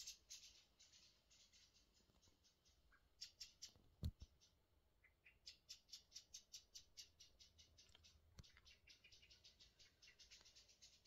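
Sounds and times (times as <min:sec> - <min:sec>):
scratchy bird chirps: 0:00.0 - 0:11.0.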